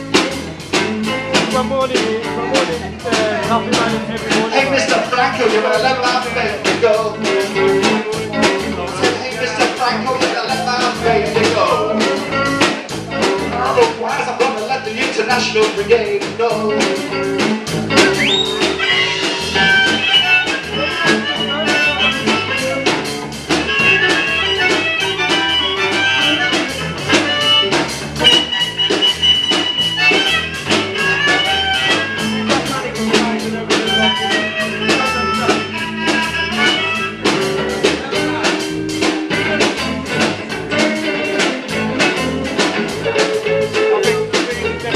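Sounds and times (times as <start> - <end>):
acoustic and electric guitars: 0.0 - 44.9
quick high lead guitar notes: 0.0 - 44.9
steady drum beat: 0.0 - 44.9.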